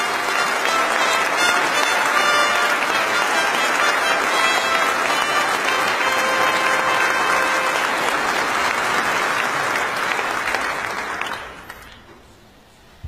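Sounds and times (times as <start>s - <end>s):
large audience applauding: 0.0s - 12.1s.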